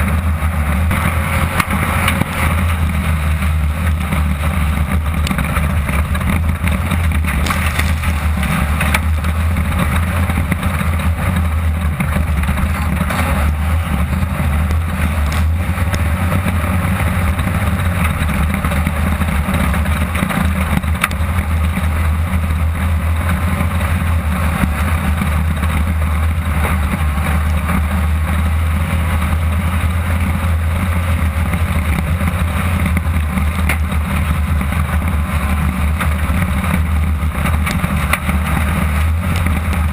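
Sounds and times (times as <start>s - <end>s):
race car engine drone: 0.0s - 39.9s.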